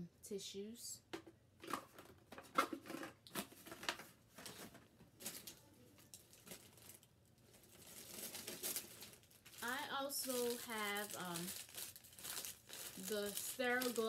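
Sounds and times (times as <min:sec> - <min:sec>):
soft rustle of rummaging: 0:01.6 - 0:14.0.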